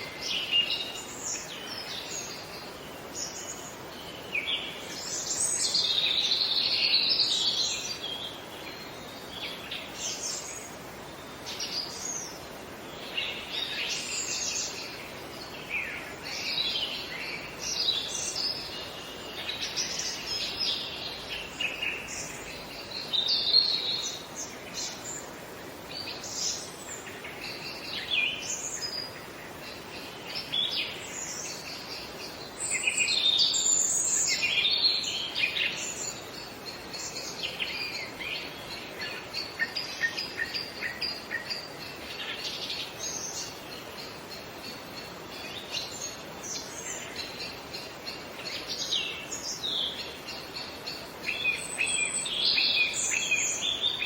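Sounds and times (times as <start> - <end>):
birds chirping and trilling: 0.0 - 54.0
faint steady hiss: 0.0 - 54.0.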